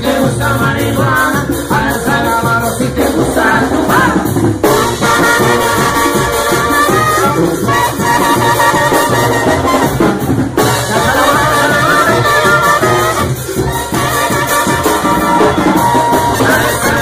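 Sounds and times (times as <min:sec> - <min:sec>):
brass melody: 0:00.0 - 0:17.0
driving drum beat: 0:00.0 - 0:17.0.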